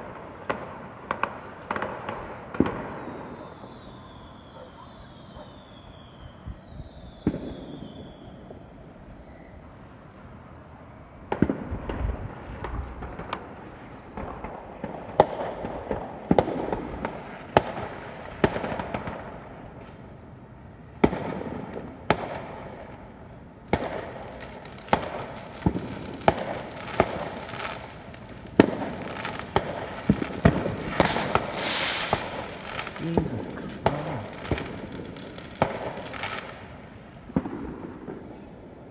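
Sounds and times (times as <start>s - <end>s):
fireworks bangs and crackle: 0.0s - 4.6s, 5.2s - 8.7s, 11.3s - 20.1s, 21.0s - 23.0s, 23.6s - 38.8s.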